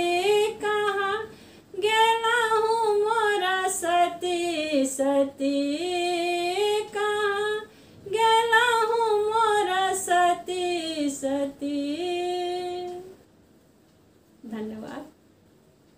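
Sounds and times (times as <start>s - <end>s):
woman singing unaccompanied: 0.0s - 13.2s.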